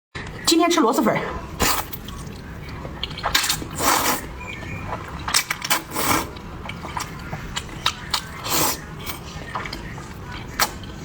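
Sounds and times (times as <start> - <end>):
crackling clicks of eating: 1.6 - 11.0
crunchy chewing: 1.6 - 11.0.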